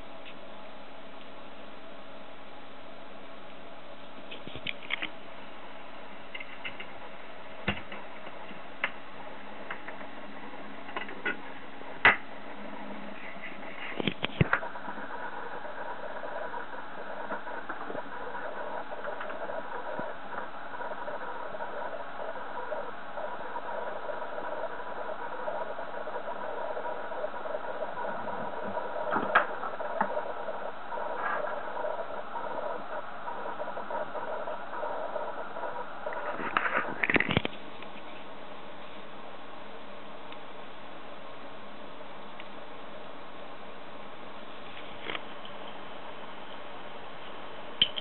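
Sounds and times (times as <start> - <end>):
faint hum: 0.0 - 48.0.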